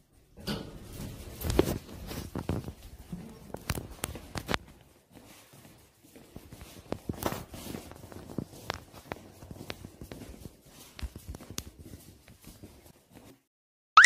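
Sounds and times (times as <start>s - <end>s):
footsteps on tiled floor: 0.8s - 13.5s.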